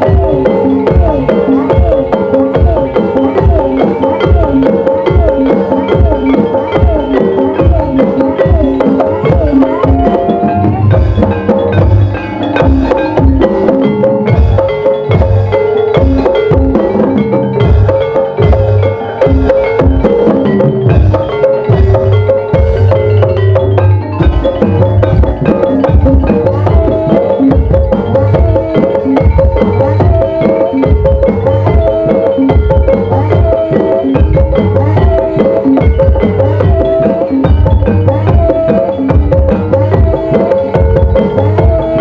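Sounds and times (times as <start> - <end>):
metallophone and gong-chime notes: 0.0 - 42.0.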